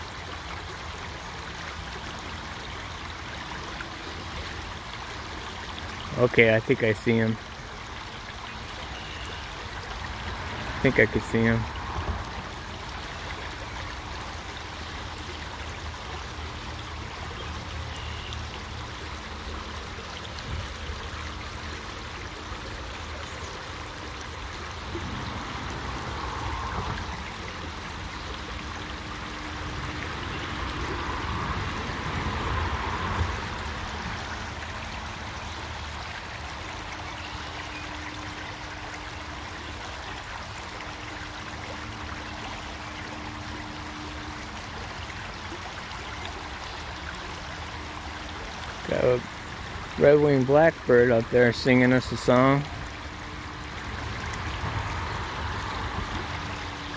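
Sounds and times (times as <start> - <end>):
creek water running over rocks: 0.0 - 56.9.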